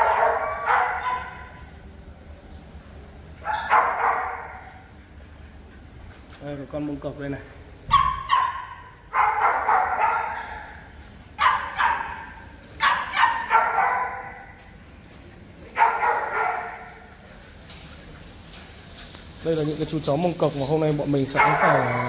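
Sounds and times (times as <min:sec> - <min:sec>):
dogs barking in echoing room: 0:00.0 - 0:01.8, 0:03.1 - 0:06.2, 0:07.6 - 0:19.9, 0:20.6 - 0:22.0.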